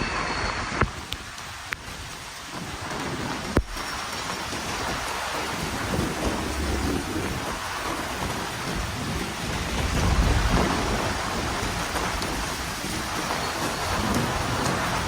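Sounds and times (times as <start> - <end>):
heavy rain falling: 0.0 - 15.0
low rumble of thunder: 2.0 - 15.0.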